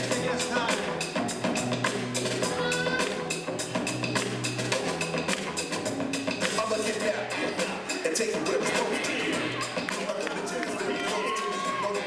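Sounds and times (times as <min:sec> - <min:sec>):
bass line: 0:00.0 - 0:12.0
busy drum beat: 0:00.0 - 0:12.0
street-dance music: 0:00.0 - 0:12.0.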